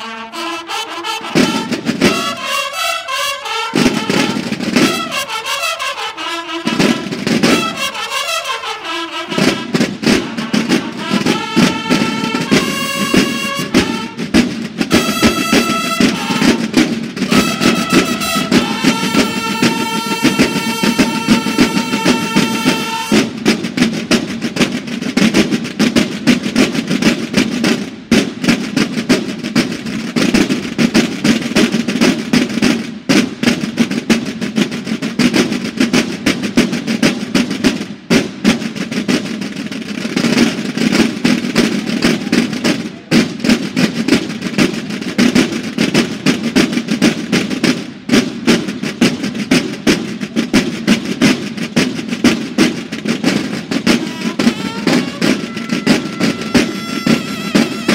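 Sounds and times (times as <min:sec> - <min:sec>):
marching snare drums: 0:00.0 - 0:57.9.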